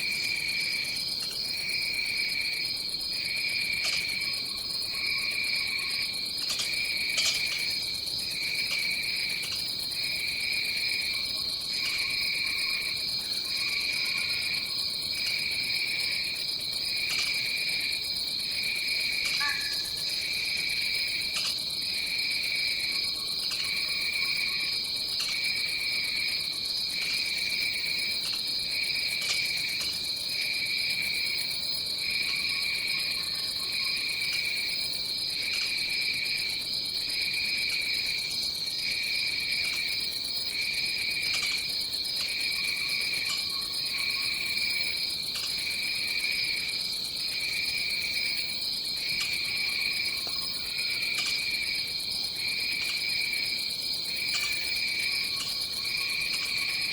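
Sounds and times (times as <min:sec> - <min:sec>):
high insect trill: 0:00.0 - 0:56.9
lower pulsing insect call: 0:00.0 - 0:56.9.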